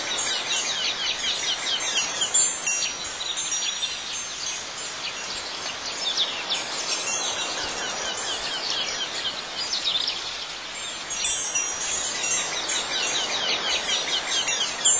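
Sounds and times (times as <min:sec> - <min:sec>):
small birds chirping: 0:00.0 - 0:14.9
steady background hiss: 0:00.0 - 0:14.9
wind chimes ringing: 0:00.0 - 0:14.9.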